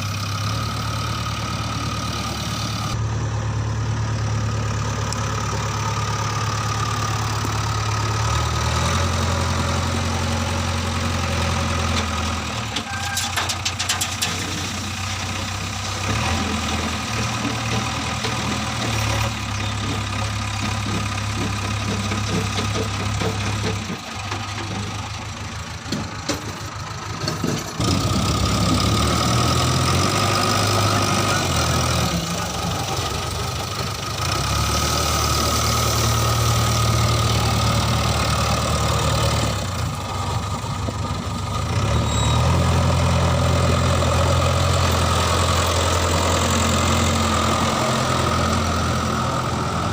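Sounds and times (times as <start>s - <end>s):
diesel engine under load: 0.0s - 49.9s.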